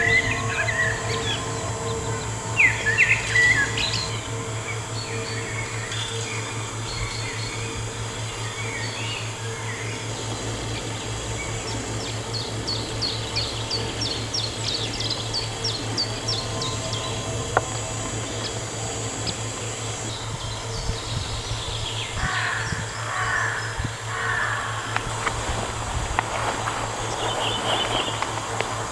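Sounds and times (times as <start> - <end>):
bird calls: 0.0 - 28.9
songbird chirping: 0.0 - 28.9
steady low hum: 0.0 - 28.9.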